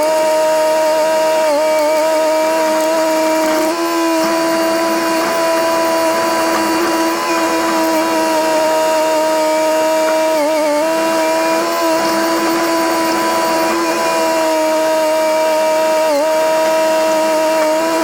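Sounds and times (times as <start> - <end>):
bulldozer diesel engine droning: 2.3 - 18.0.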